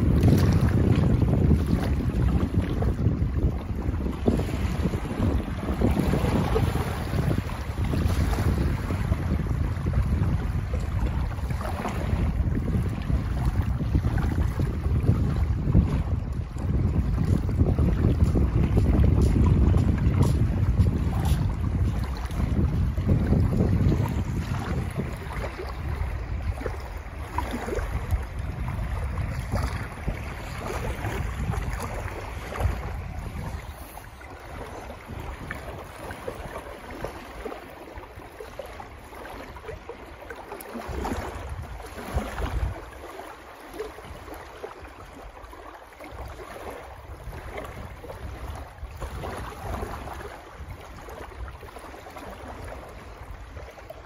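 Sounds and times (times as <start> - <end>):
small waves splashing: 0.0 - 54.0
wind buffeting microphone: 0.0 - 54.0.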